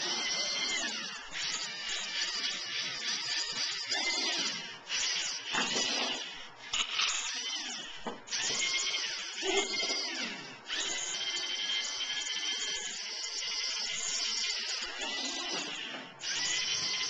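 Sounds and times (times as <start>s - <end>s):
robot servo motors whining: 0.0s - 17.0s.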